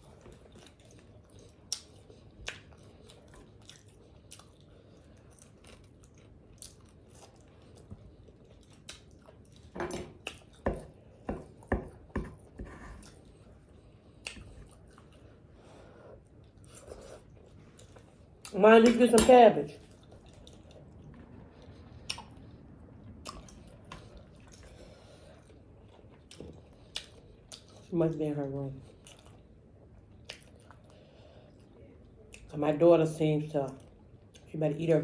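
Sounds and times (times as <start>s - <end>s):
chewing and mouth smacking: 0.0s - 15.5s, 16.2s - 19.0s, 19.8s - 27.9s, 28.8s - 32.5s, 33.8s - 34.5s.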